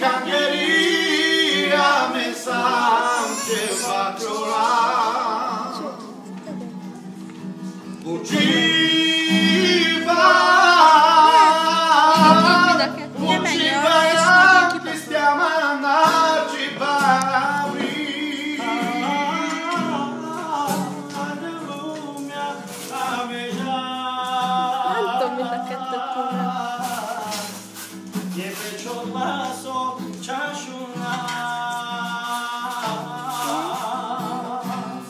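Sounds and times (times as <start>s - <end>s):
man singing: 0.0s - 6.2s, 7.9s - 35.0s
strummed acoustic guitar: 0.0s - 35.0s.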